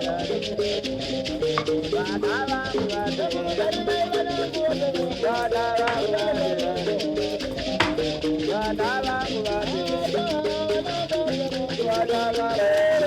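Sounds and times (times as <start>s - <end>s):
shaker rattle: 0.0s - 13.0s.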